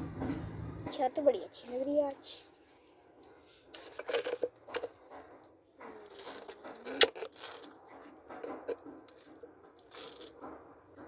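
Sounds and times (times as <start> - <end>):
light knocks and scraping: 1.7 - 11.0.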